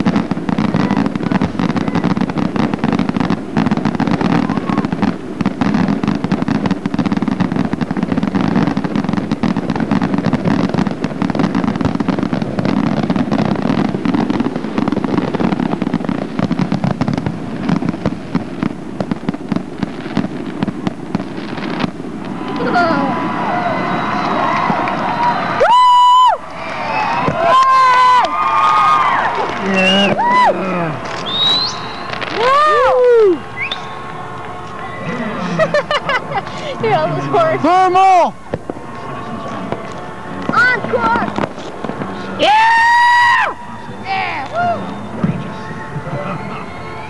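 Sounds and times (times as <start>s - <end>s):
fireworks fountains crackling: 0.0s - 47.0s.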